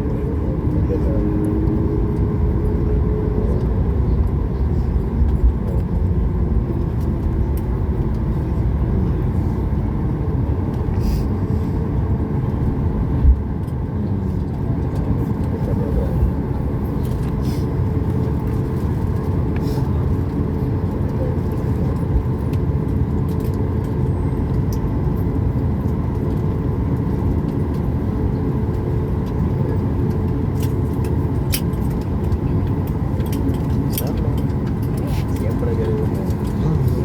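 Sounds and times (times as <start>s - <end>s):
aircraft engines idling: 0.0s - 37.0s
wheels rolling on taxiway: 0.0s - 37.0s.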